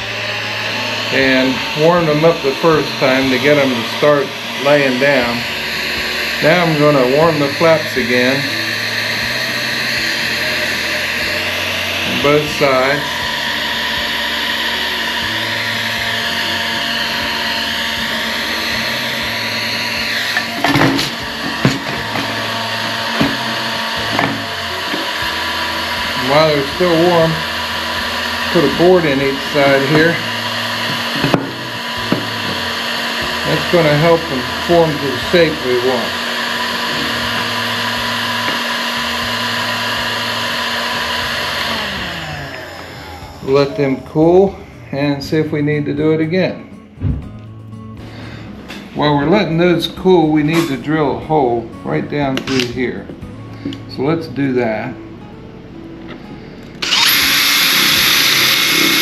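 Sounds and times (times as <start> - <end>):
heat gun fan rush: 0.0 - 46.5, 56.6 - 59.0.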